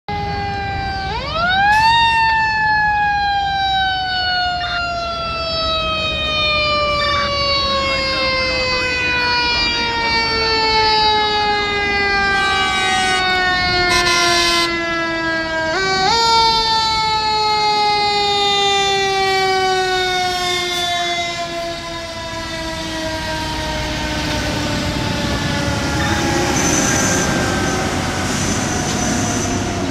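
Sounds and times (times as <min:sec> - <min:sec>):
fire engine siren wailing: 0:00.1 - 0:29.9.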